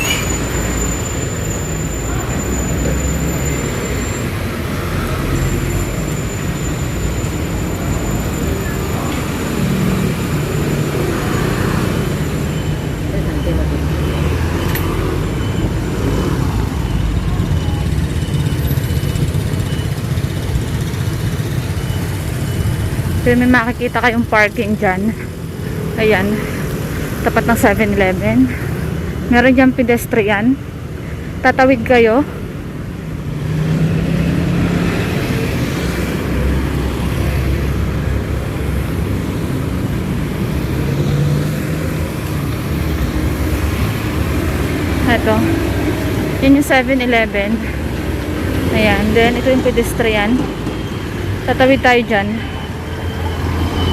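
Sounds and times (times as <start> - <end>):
traffic rumble: 0.0 - 53.9
vehicle engines passing: 0.0 - 53.9.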